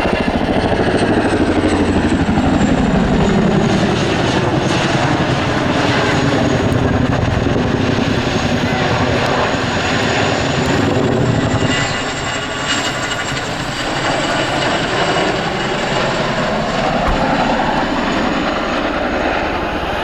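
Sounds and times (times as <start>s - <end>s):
helicopter rotors and engines: 0.0s - 20.0s.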